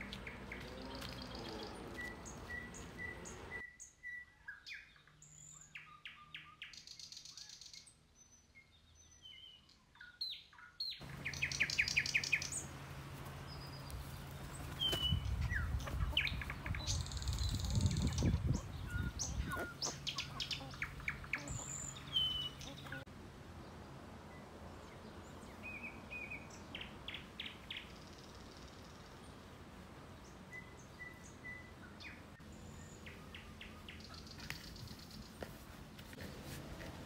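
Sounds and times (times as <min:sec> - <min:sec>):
small birds chirping and singing: 0:00.0 - 0:36.3.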